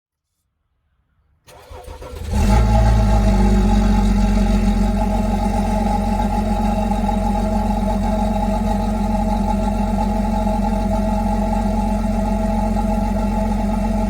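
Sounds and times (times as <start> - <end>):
diesel engine cranking: 1.5 - 14.0
diesel engine idling: 1.5 - 14.0.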